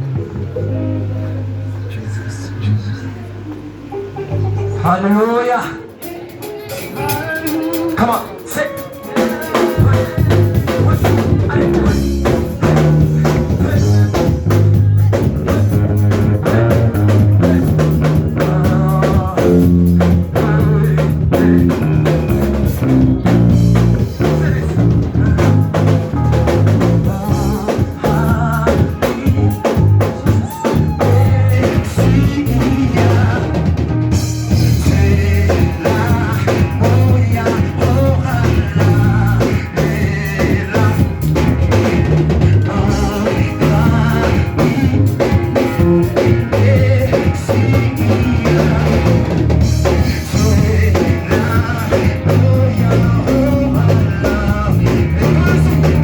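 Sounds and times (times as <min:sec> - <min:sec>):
band playing with drums and bass: 0:00.0 - 0:02.2, 0:03.1 - 0:56.0
people singing: 0:05.6 - 0:26.0, 0:26.6 - 0:33.9, 0:34.5 - 0:56.0.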